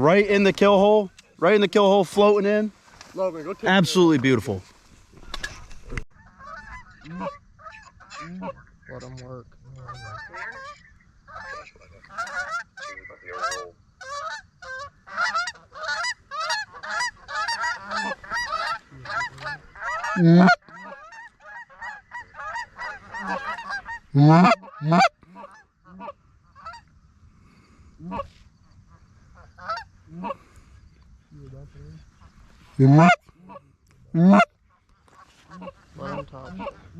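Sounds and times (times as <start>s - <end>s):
geese honking and clucking: 0.0s - 36.9s.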